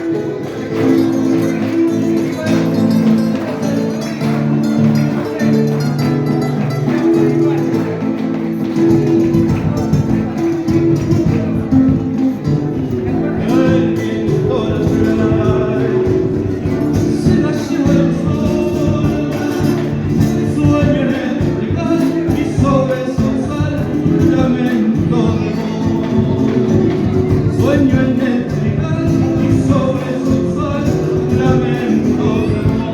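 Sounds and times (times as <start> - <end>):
folk music with singing: 0.0 - 32.9.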